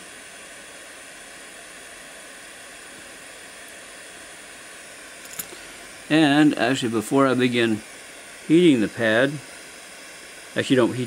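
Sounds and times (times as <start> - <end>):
butane torch hissing: 0.0 - 11.0.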